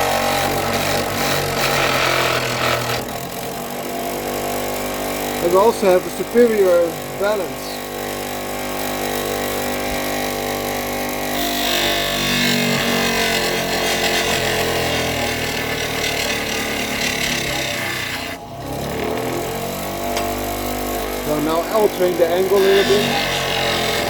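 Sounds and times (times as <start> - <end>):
power tool grinding wood: 0.0 - 24.0.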